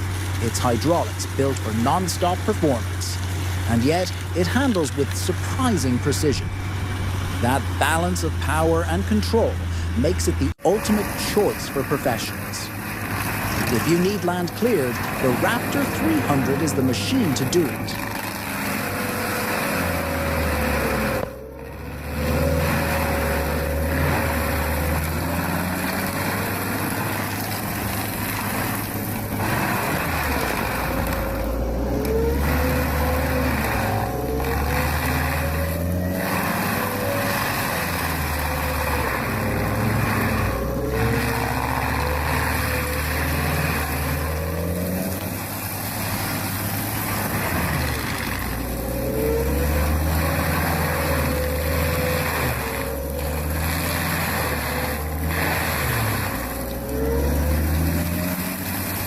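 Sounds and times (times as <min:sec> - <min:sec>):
heavy machine engine under load: 0:00.0 - 0:59.0
rumble of machine noise: 0:00.0 - 0:59.0.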